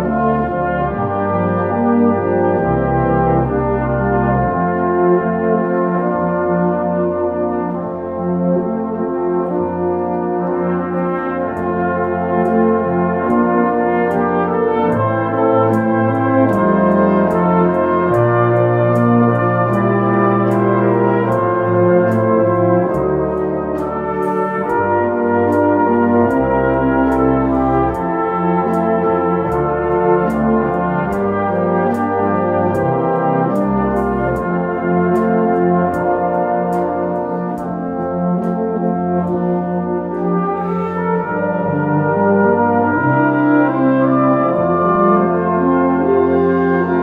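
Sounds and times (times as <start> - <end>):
brass band playing chords: 0.0 - 47.0.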